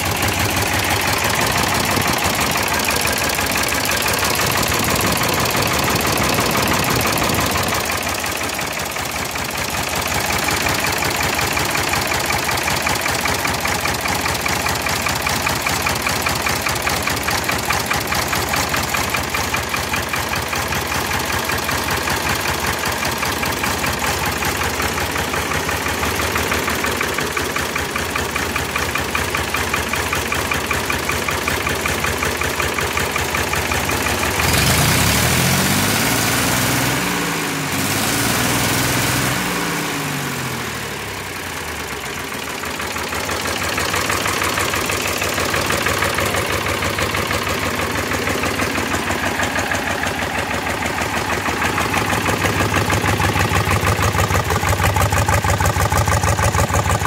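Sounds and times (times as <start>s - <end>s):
tractor diesel engine idling and revving: 0.0s - 57.0s.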